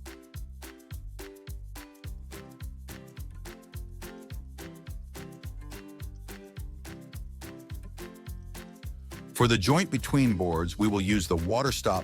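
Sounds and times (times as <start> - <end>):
background music with bass beat: 0.0 - 12.0.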